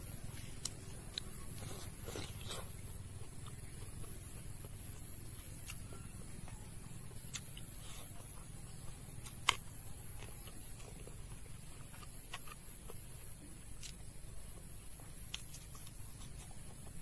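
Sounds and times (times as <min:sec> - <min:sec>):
wet chewing and mouth smacks: 0:00.1 - 0:17.0.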